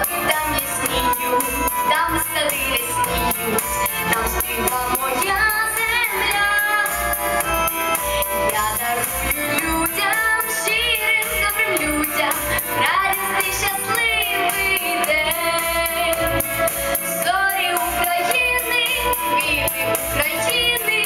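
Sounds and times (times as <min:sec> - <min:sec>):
backing track with beat: 0:00.0 - 0:21.0
girl singing pop ballad: 0:00.0 - 0:21.0.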